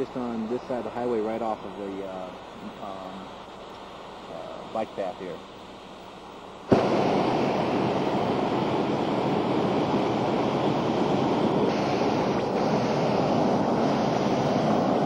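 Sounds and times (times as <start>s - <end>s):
propane burner roaring: 0.0s - 15.0s.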